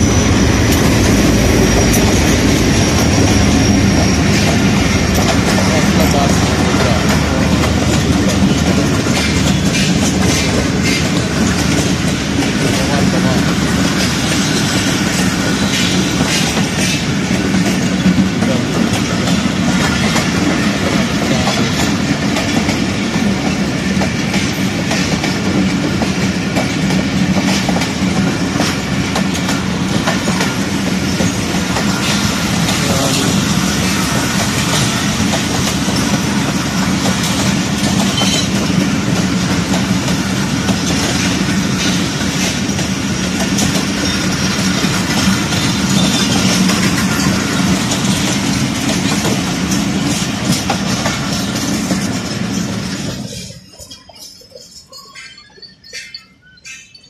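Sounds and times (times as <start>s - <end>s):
train coaches rolling past: 0.0s - 57.0s
wheels clacking over rail joints: 0.0s - 57.0s.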